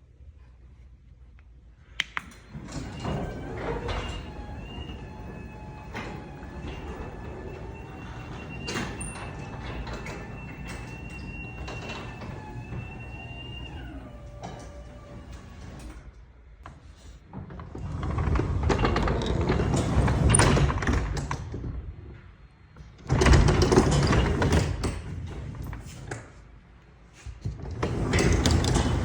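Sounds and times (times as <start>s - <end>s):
garage door rumbling on tracks: 2.4s - 26.4s, 27.4s - 29.0s.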